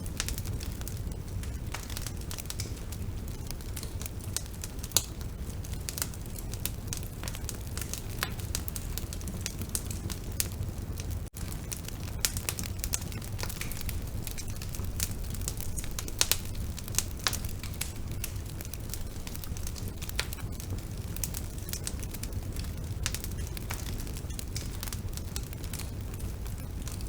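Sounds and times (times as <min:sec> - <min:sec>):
fire crackles and pops: 0:00.0 - 0:27.0
low rumble of flames: 0:00.0 - 0:27.0.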